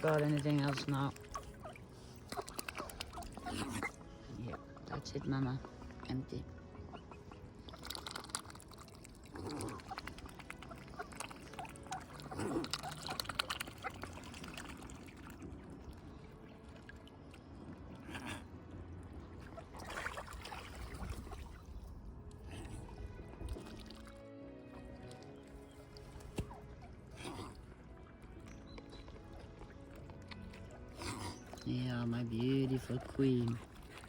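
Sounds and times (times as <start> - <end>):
small water splashes: 0.0 - 34.0
swan dabbling in water: 0.0 - 34.0.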